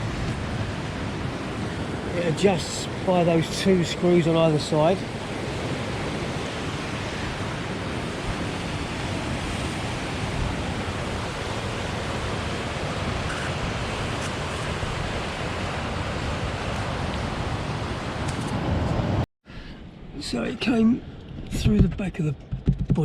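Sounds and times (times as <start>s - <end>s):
steady rushing noise: 0.0s - 19.2s.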